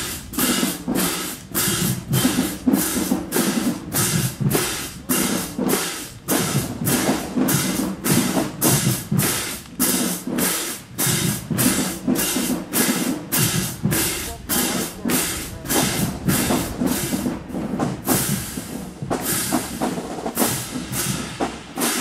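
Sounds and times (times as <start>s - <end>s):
cymbal crashes: 0.0s - 22.0s
pounding marching drums: 0.0s - 22.0s.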